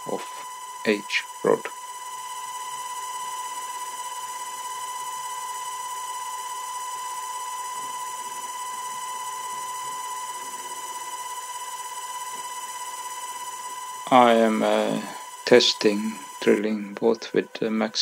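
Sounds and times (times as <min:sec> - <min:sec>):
high-pitched motor whine: 0:00.0 - 0:18.0.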